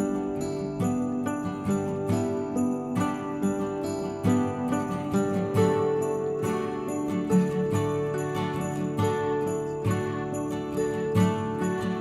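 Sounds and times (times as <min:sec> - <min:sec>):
christmas-style music with jingle bells: 0:00.0 - 0:12.0.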